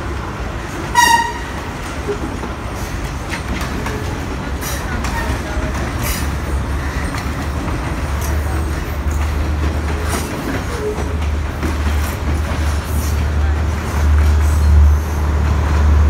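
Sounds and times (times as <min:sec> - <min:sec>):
diesel train rumbling past: 0:00.0 - 0:16.0
wheels clicking over rail joints: 0:00.8 - 0:14.9.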